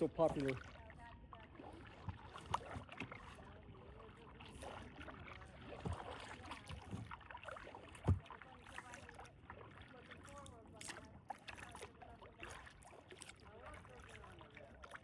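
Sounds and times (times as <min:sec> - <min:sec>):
paddle strokes in water: 0:00.0 - 0:15.0.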